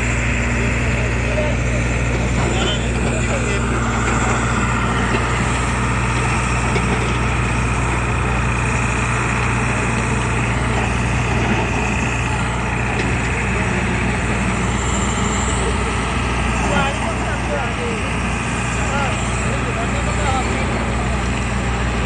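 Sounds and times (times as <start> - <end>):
diesel machinery engine drone: 0.0 - 22.0.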